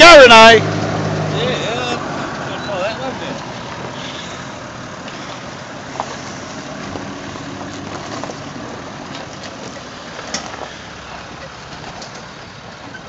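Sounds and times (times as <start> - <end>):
truck engine running at low revs: 0.2 - 13.0.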